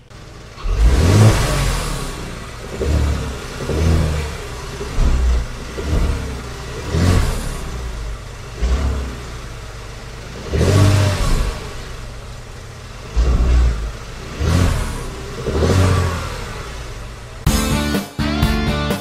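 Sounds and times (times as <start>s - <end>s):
engine knocking: 0.0s - 17.4s
car engine revving: 0.0s - 17.5s.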